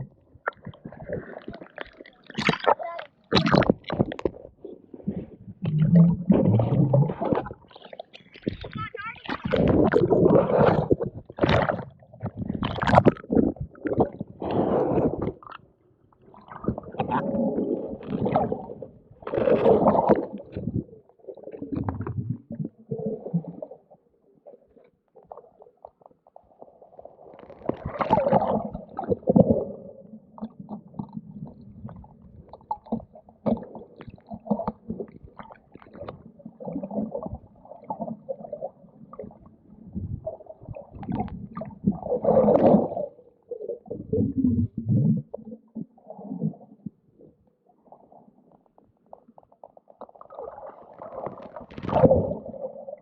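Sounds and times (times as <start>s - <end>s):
underwater gurgling and bubbling: 0.0s - 53.0s.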